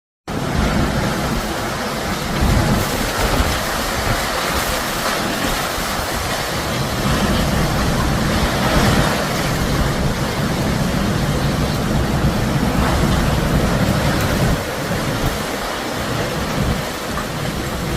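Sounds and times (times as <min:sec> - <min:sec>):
strong wind gusts: 0:00.3 - 0:17.9
wind buffeting microphone: 0:00.3 - 0:17.9.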